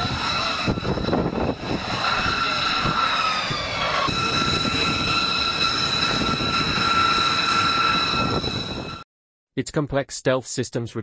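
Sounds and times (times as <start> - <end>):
aircraft turbine whine: 0.0 - 9.0.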